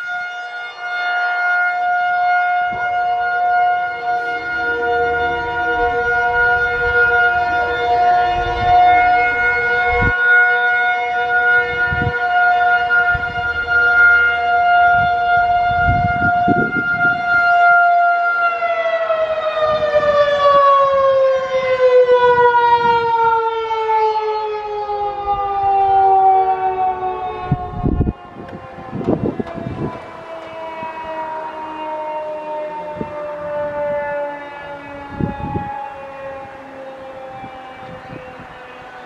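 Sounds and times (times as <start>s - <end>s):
distant sirens low tone: 0.0s - 39.0s
rotating warning siren: 0.0s - 39.0s
wind gusts on microphone: 4.2s - 10.4s, 11.4s - 17.7s, 18.7s - 23.4s, 25.0s - 39.0s.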